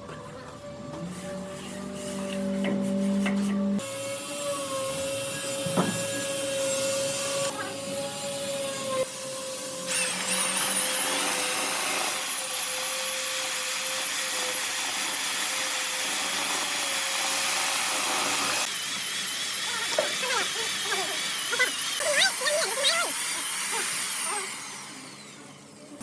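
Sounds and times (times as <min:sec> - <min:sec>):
power tool motor whining: 0:00.8 - 0:25.9.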